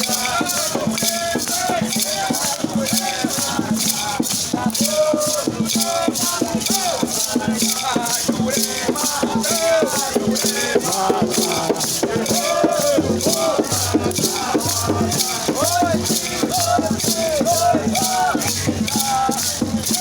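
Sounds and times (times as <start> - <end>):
maracas shaking: 0.0 - 20.0
voices chanting a melody: 0.0 - 20.0.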